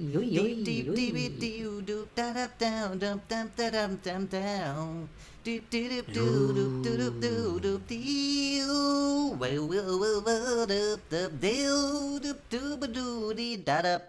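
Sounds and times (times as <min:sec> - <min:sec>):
background music with singing: 0:00.0 - 0:13.7.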